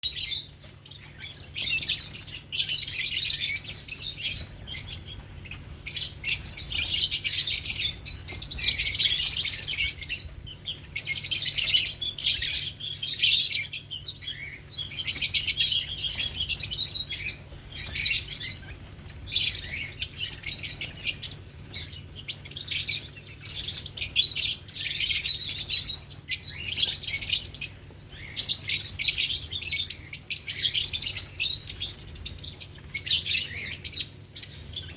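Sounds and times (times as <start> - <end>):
lovebirds chirping: 0.0 - 34.9.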